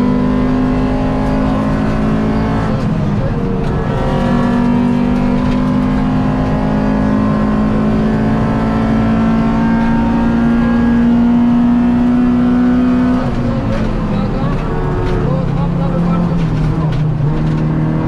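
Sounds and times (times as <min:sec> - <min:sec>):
rally car engine at high revs: 0:00.0 - 0:18.0
tyre and road rumble: 0:00.0 - 0:18.0.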